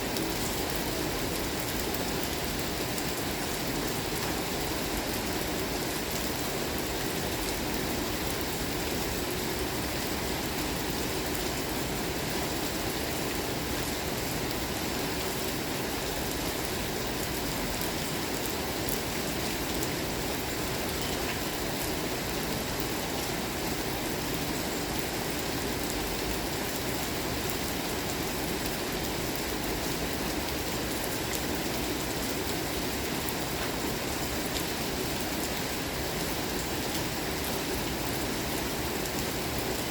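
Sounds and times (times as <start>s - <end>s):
raindrops ticking on surfaces: 0.0s - 39.9s.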